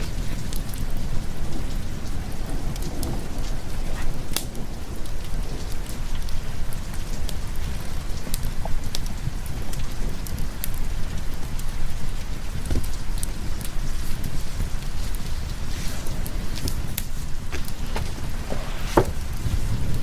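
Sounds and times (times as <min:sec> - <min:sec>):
heavy rain: 0:00.0 - 0:20.0
raindrops ticking: 0:00.0 - 0:20.0.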